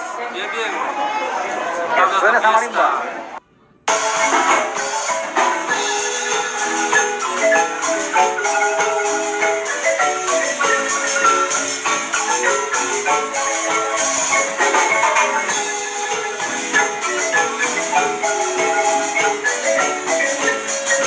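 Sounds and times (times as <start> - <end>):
marimba music: 3.9 - 21.0.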